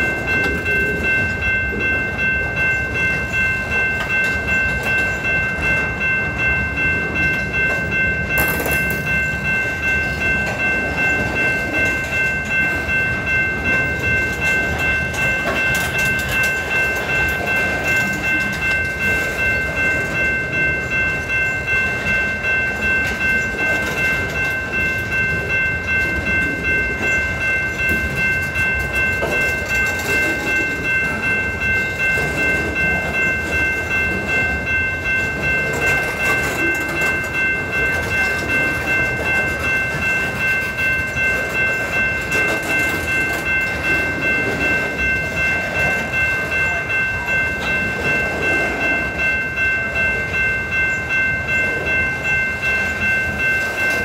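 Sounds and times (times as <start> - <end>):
high ringing tone: 0.0 - 54.0.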